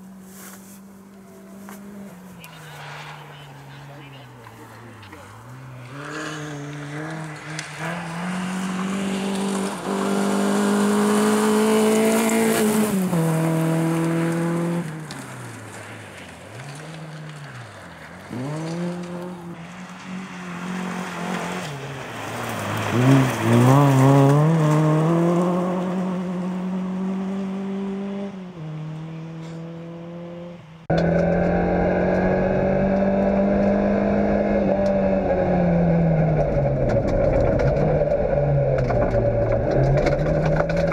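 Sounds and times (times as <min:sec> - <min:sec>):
car engine revving: 0:00.0 - 0:40.9
tyre noise: 0:00.0 - 0:40.9.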